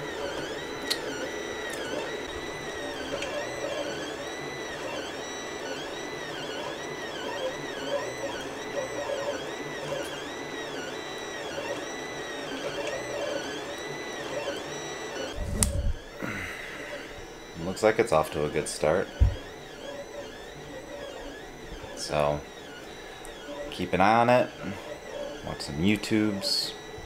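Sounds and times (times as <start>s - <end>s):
steady mechanical hum: 0.0s - 27.0s
stepper motors whining: 0.0s - 27.0s.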